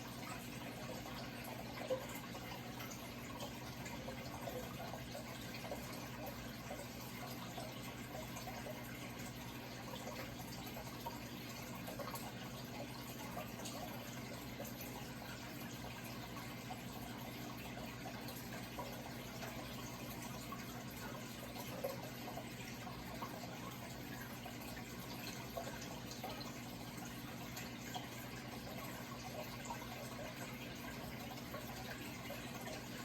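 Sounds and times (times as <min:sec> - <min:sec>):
water trickling and bubbling: 0:00.0 - 0:33.0.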